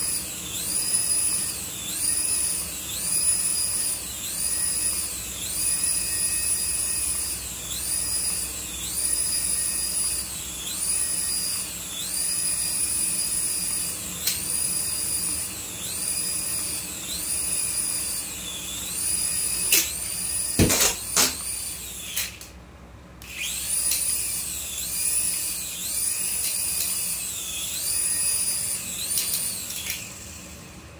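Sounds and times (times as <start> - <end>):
toy helicopter motors whining: 0.0 - 22.5, 23.2 - 30.8.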